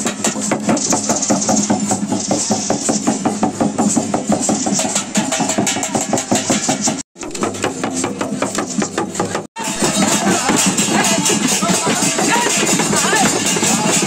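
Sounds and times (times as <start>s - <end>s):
frame drums beaten fast: 0.0s - 14.0s.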